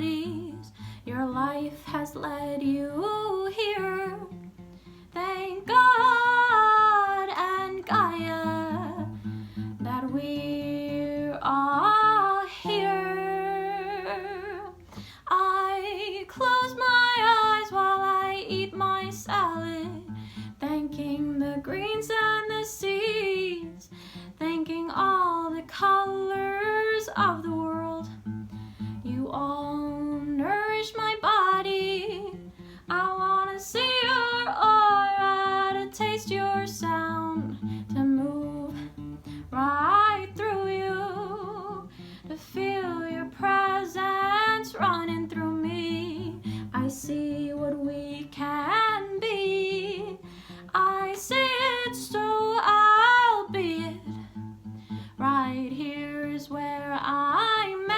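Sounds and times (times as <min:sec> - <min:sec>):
woman singing with vibrato: 0:00.0 - 0:28.3, 0:29.0 - 0:54.4, 0:55.0 - 0:57.9
strummed acoustic guitar: 0:00.0 - 0:57.9.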